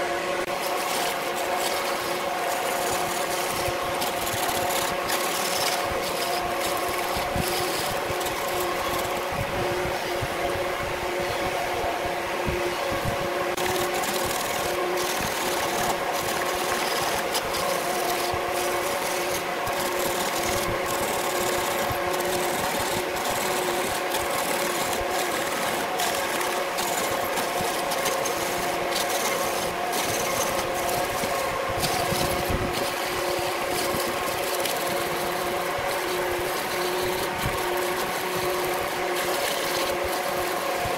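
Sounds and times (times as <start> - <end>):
turning tool scraping wood: 0.0 - 11.9, 12.6 - 40.9
lathe motor humming: 0.0 - 40.9.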